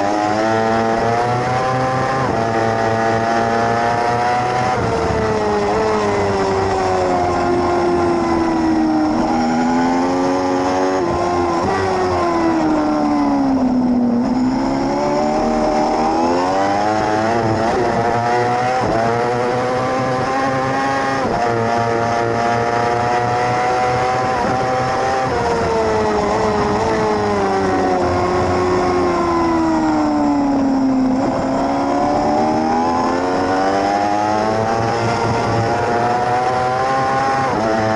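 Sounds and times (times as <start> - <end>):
racing motorcycle engine: 0.0 - 37.9.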